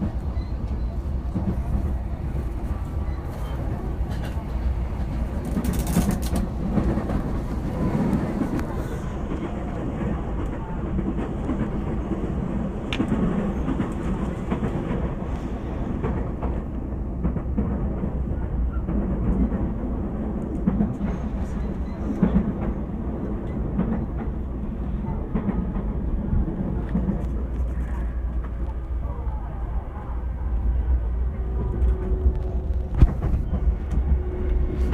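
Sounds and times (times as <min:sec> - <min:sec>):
wheels rumbling on rail: 0:00.0 - 0:34.9.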